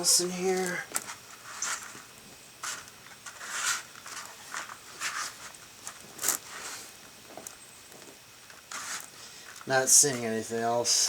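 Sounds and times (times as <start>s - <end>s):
hands rustling through soil: 0.0s - 10.4s.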